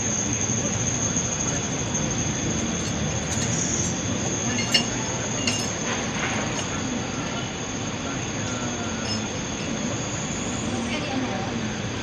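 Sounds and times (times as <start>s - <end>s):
bus engine rumble: 0.0s - 12.0s
high-pitched whine: 0.0s - 12.0s.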